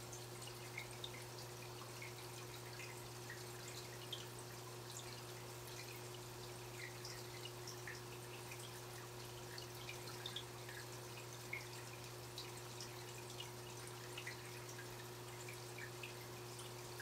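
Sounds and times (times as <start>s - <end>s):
water dripping and trickling: 0.0s - 17.0s.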